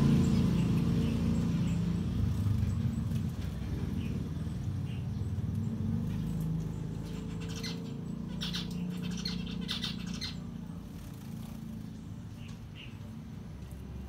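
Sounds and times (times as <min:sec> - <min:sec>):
finches chirping: 0:00.0 - 0:13.8.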